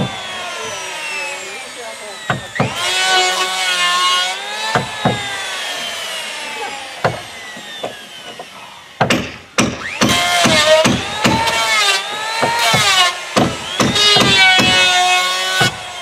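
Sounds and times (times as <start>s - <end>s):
electric planer cutting wood: 0.0s - 16.0s.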